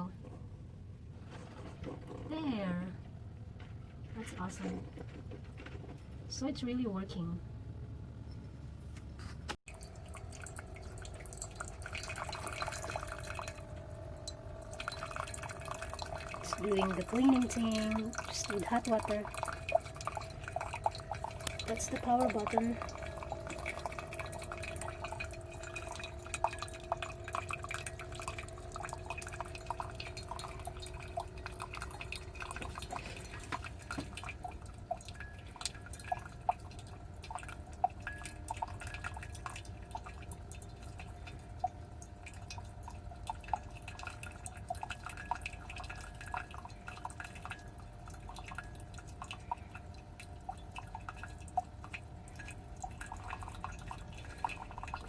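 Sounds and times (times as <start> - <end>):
coffee maker humming: 7.4 - 55.0
water dripping into cup: 9.7 - 55.0.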